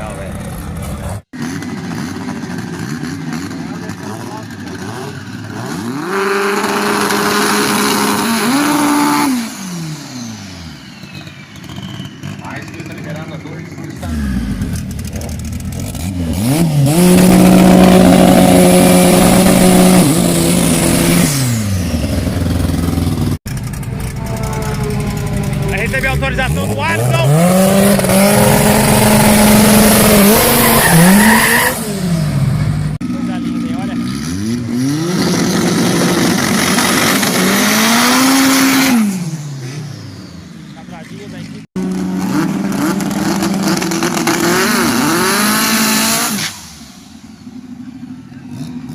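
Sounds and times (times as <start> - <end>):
drag car engine revving: 0.0 - 48.9.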